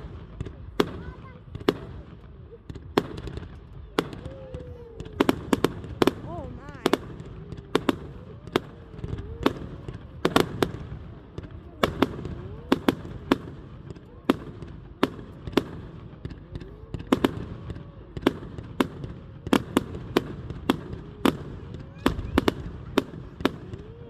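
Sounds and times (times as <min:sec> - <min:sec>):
fireworks bangs and cracks: 0:00.0 - 0:24.0.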